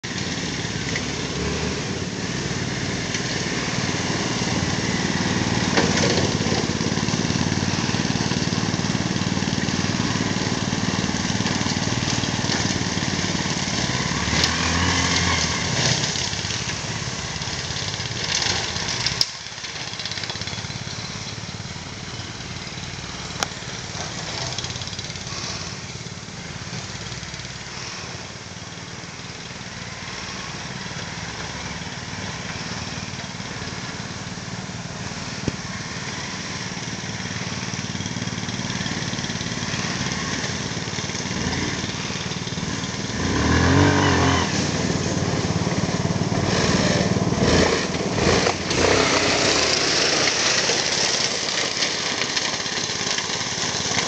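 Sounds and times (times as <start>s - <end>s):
mower engine cutting grass: 0.0s - 54.0s
quad bike engine: 0.0s - 54.0s.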